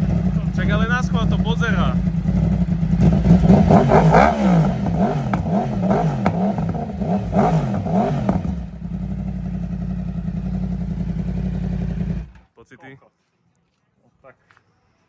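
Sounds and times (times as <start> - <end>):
motorcycle engine idling: 0.0 - 12.5
motorcycle engine revving: 0.0 - 12.5.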